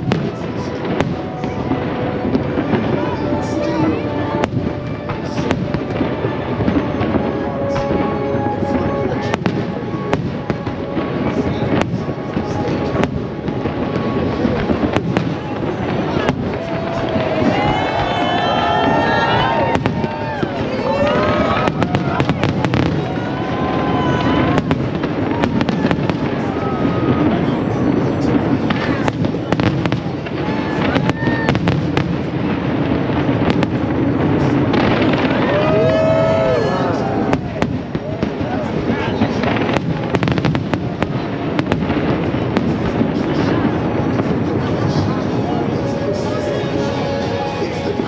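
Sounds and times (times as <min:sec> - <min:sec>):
continuous rumbling din: 0:00.0 - 0:48.0
fireworks bangs: 0:00.0 - 0:48.0
fireworks whistling: 0:00.0 - 0:48.0.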